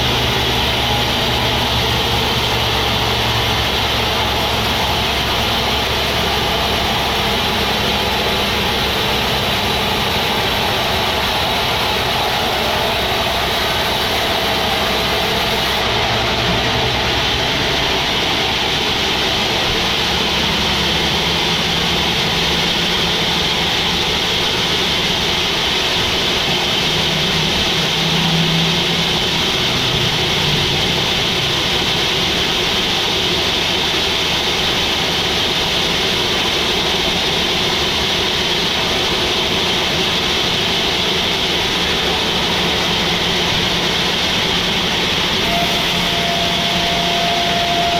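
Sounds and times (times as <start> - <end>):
band sawmill running: 0.0 - 47.9.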